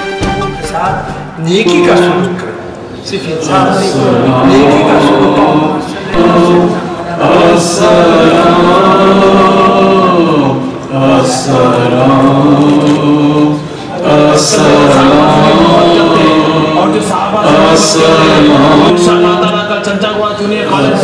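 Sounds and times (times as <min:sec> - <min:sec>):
person chanting melodically: 0:01.0 - 0:19.6.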